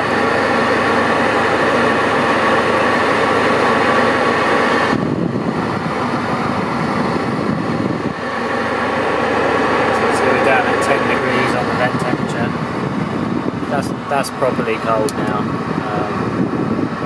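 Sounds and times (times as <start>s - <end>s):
air conditioning blower hiss: 0.0s - 17.0s.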